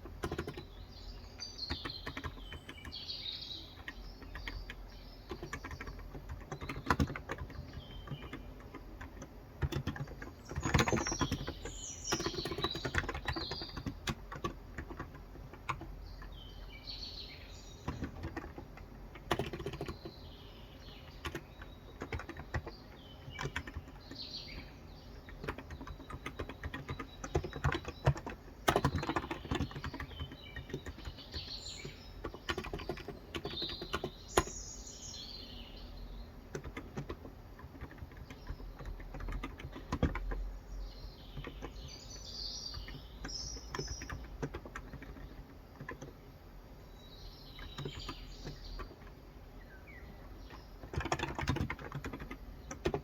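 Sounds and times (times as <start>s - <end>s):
typing on keyboard: 0.0s - 16.7s, 17.6s - 34.6s, 36.4s - 46.4s, 47.6s - 49.2s, 50.4s - 53.0s
birds chirping: 0.0s - 53.0s.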